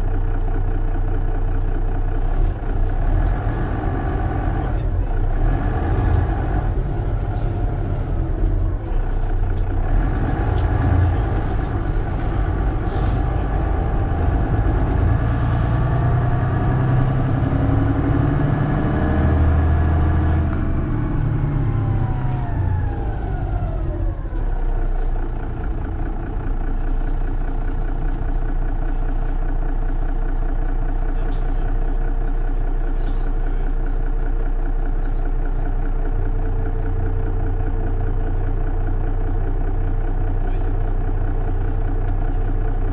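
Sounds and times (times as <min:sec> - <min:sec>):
bus engine accelerating: 0:00.0 - 0:42.9
falling whine of bus slowing: 0:00.0 - 0:42.9.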